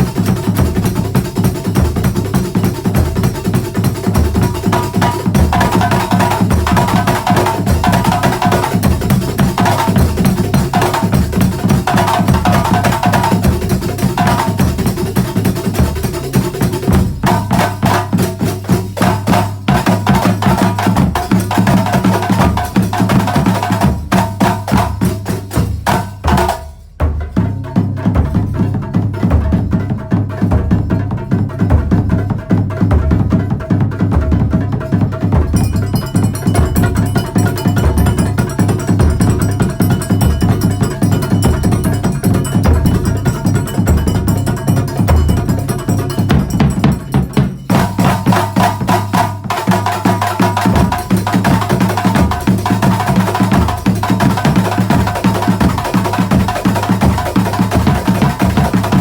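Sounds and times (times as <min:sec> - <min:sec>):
frame drums hand strikes: 0:00.0 - 0:59.0.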